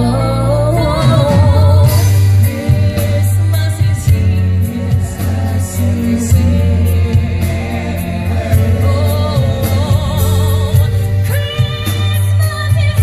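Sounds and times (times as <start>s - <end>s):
band with strong bass: 0.0s - 13.0s
women singing into microphones: 0.0s - 13.0s.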